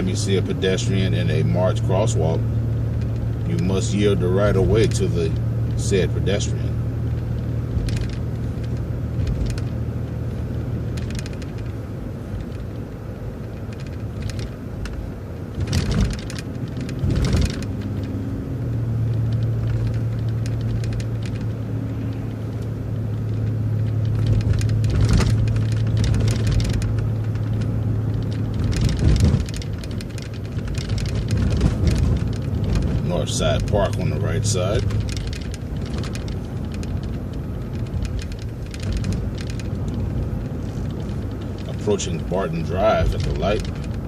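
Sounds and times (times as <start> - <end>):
bus engine drone: 0.0 - 44.0
road noise: 0.0 - 44.0
knocks and rattles: 7.1 - 44.0.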